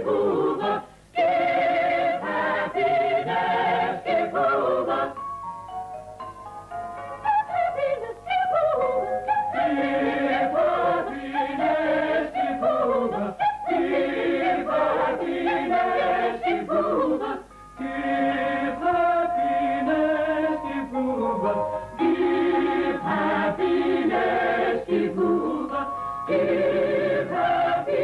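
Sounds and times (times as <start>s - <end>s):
choir singing a jingle: 0.0s - 5.3s, 7.0s - 28.0s
music: 0.0s - 28.0s.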